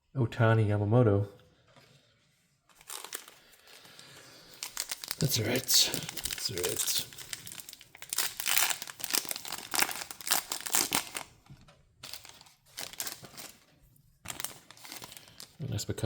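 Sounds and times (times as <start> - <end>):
wrapper crinkling and rustling: 2.6 - 15.7.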